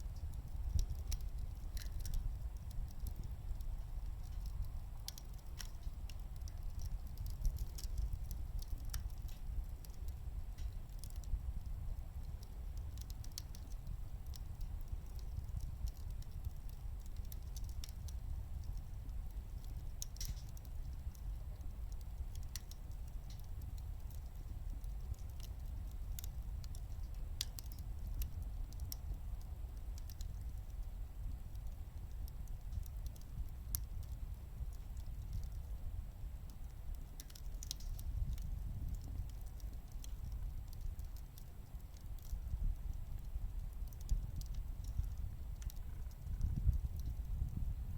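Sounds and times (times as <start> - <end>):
wood crackling in a stove: 0.0 - 47.9.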